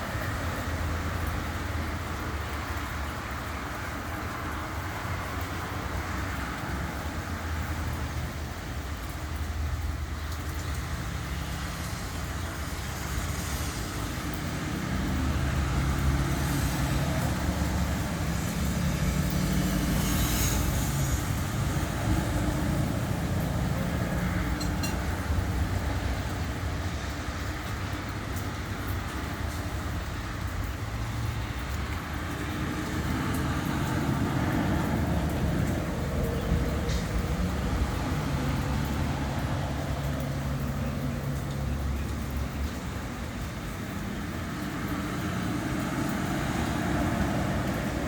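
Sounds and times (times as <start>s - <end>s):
traffic noise: 0.0s - 48.0s.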